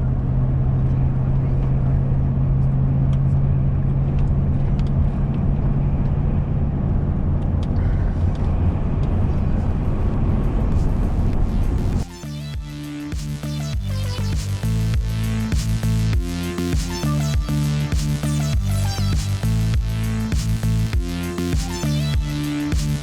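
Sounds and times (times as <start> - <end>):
low hum: 0.0 - 23.0
vehicle driving drone: 0.0 - 23.0.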